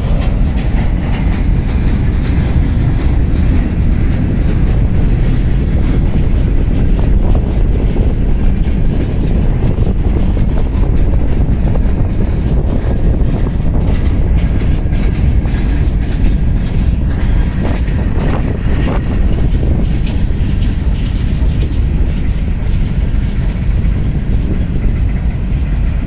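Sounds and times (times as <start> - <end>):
train wheels on rails: 0.0 - 26.0
wind buffeting microphone: 0.0 - 26.0.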